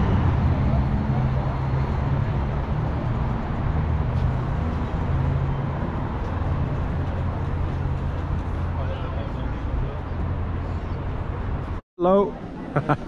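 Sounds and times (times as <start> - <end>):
busy road traffic rumble: 0.0 - 13.0.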